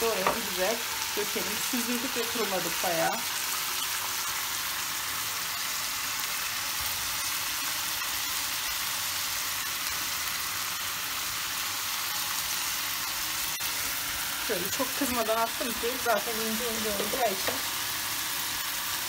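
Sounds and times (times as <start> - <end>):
meat frying sizzle: 0.0 - 19.0.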